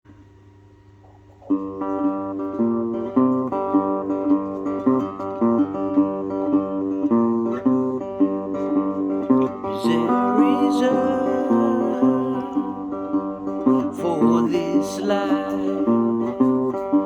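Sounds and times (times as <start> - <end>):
acoustic guitar strumming: 1.0 - 17.0.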